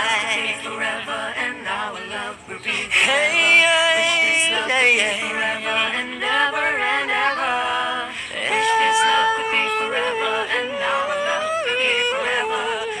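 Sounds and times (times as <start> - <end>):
person singing love ballad: 0.0 - 13.0.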